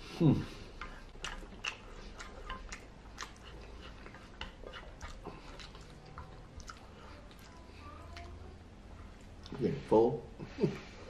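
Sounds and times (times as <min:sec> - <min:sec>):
wet chewing mouth sounds: 0:00.5 - 0:09.6.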